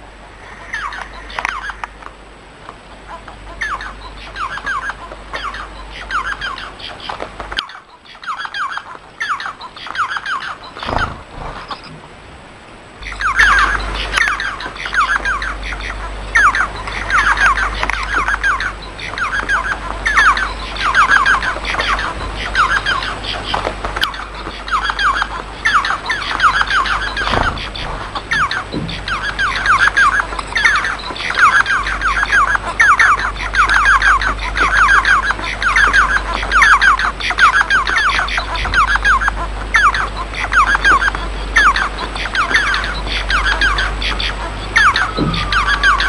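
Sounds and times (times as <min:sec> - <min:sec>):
finches chirping: 0:00.0 - 0:02.1, 0:02.7 - 0:12.1, 0:13.0 - 0:46.0
faint high whine: 0:00.0 - 0:46.0.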